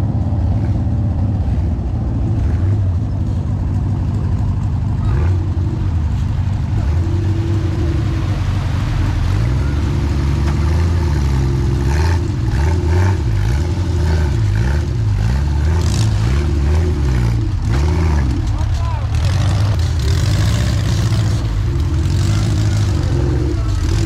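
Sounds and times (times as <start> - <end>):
engine revving in mud: 0.0 - 24.0.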